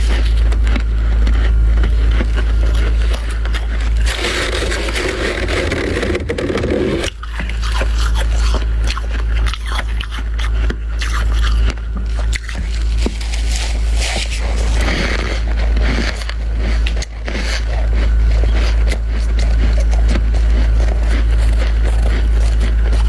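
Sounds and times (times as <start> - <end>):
frost scraped by hand: 0.0 - 8.7, 12.3 - 23.0
frost being chewed: 0.0 - 23.0
steady low hum: 0.0 - 23.0.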